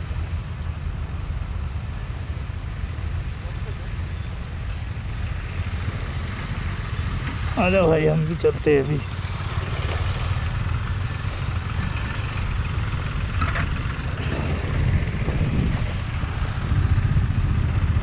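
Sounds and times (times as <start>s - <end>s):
motorcycle engines idling: 0.0s - 18.0s.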